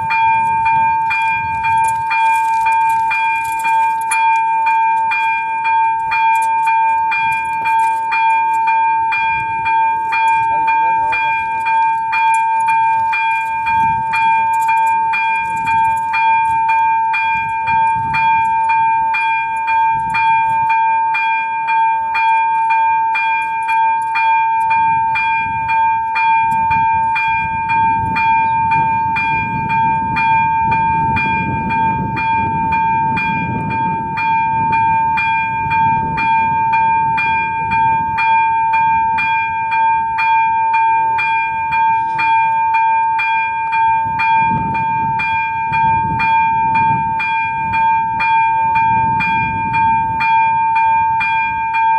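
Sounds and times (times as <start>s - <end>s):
level crossing bell ringing: 0.0s - 51.9s
steady ringing tone: 0.0s - 51.9s.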